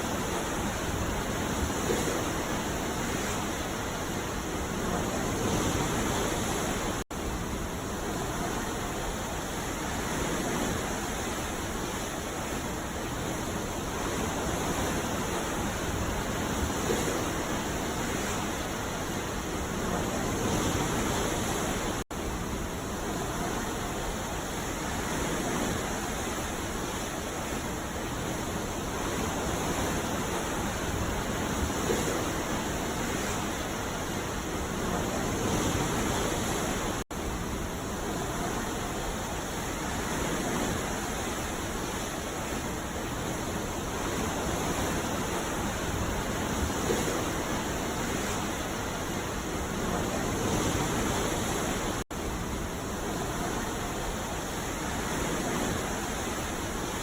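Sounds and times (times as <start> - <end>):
ocean surf breaking on beach: 0.0 - 57.0.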